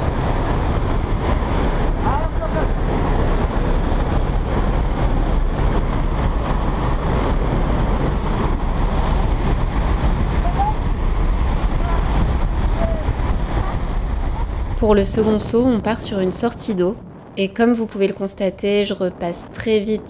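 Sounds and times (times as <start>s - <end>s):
propeller engine noise: 0.0s - 20.0s
rush of wind: 0.0s - 20.0s.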